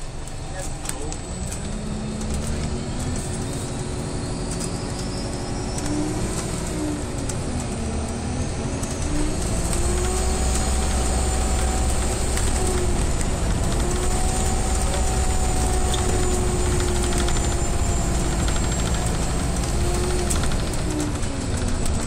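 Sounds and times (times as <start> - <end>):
bus cabin drone: 0.0 - 22.0.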